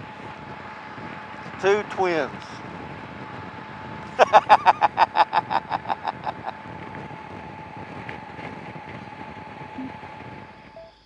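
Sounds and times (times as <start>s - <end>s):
wind rush: 0.0s - 1.7s, 2.3s - 10.8s
motorcycle engine noise: 0.0s - 11.0s.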